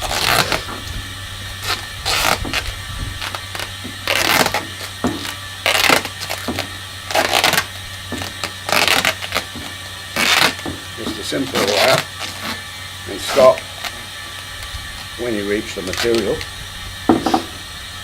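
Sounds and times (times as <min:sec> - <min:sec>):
duct tape ripping off roll: 0:00.0 - 0:16.5.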